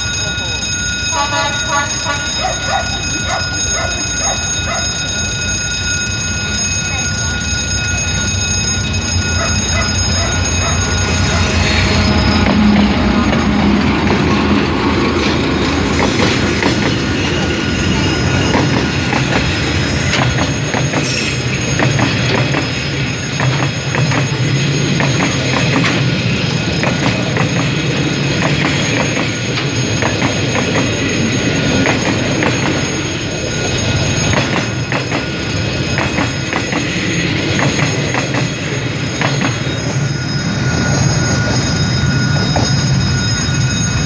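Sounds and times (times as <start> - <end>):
diesel locomotive engine: 0.0 - 44.0
wheels clicking over rail joints: 1.9 - 44.0.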